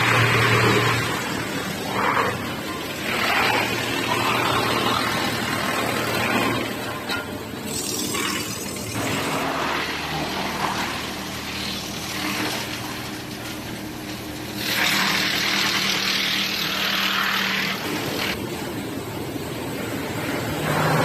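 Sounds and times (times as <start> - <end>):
wood chipper humming: 0.0 - 21.0.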